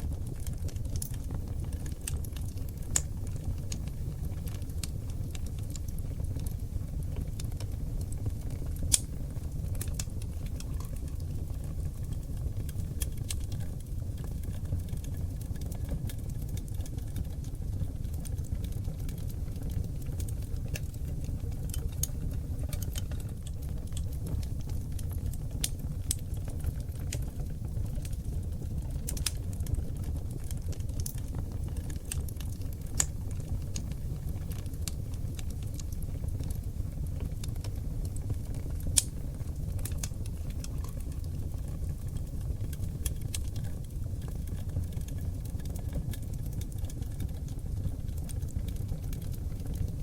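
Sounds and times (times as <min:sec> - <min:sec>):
fire crackling and popping: 0:00.0 - 0:50.0
low rumble of flames: 0:00.0 - 0:50.0.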